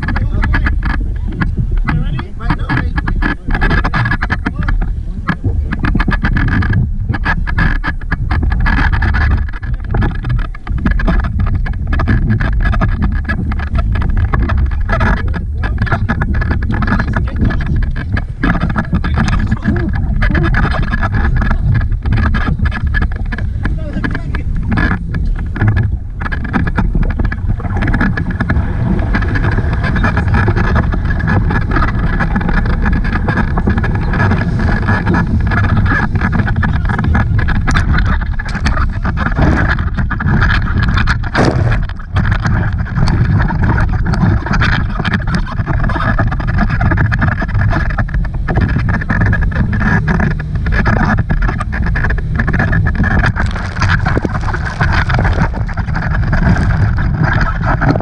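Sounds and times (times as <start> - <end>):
boat engine running: 0.0 - 58.0
wind buffeting microphone: 0.0 - 58.0.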